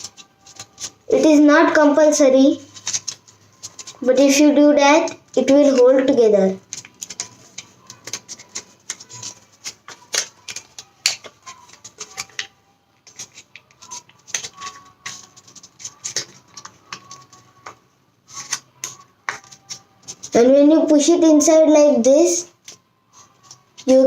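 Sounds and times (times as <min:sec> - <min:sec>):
paper crinkling and crackling: 0:00.0 - 0:21.4, 0:22.5 - 0:24.0.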